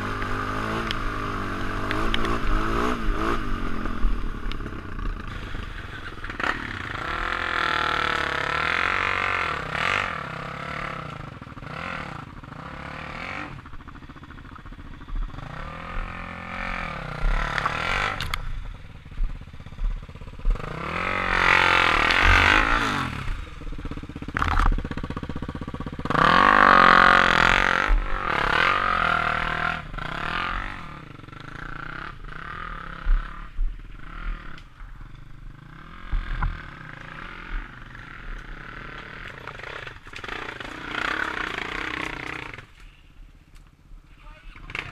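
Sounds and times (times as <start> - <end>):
motorcycle engines revving: 0.0 - 43.3, 44.0 - 44.9.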